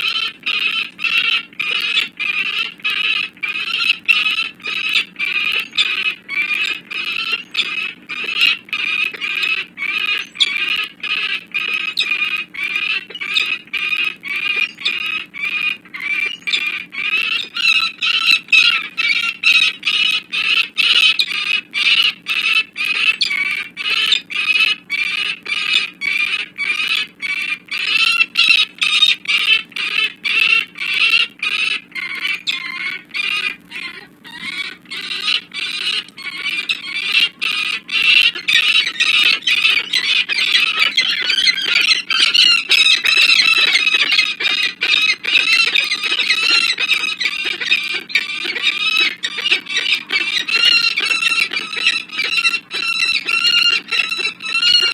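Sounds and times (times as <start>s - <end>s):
falcon cacking: 0.0s - 54.9s.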